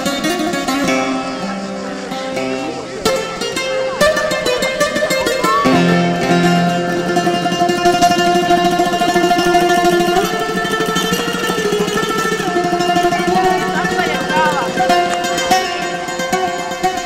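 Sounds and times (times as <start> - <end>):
bouzouki tremolo melody: 0.0 - 17.0.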